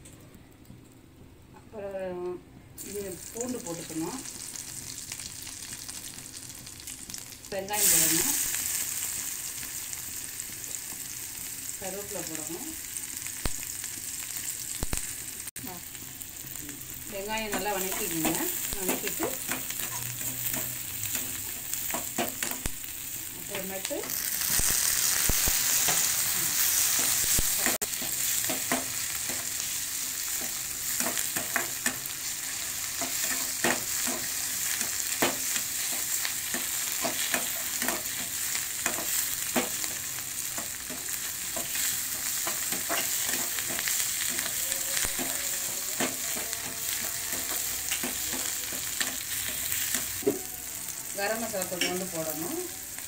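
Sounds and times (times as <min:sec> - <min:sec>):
onions and tomatoes sizzling in oil: 0:02.8 - 0:53.0.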